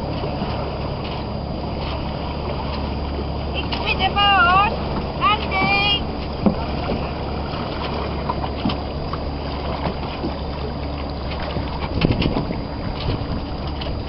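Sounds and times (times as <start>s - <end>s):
water rushing past hulls: 0.0s - 14.0s
wind buffeting microphone: 0.0s - 14.0s.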